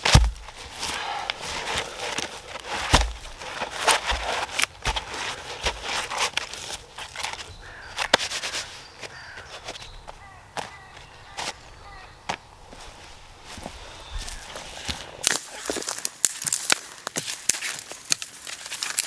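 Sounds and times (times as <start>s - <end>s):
dull footfalls: 0.0s - 19.0s
twigs and leaves crackling underfoot: 0.0s - 19.0s.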